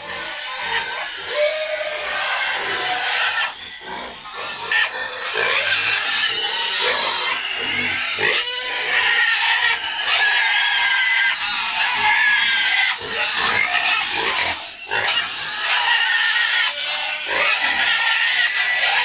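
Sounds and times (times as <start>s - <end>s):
young pigs squealing: 0.0s - 19.0s.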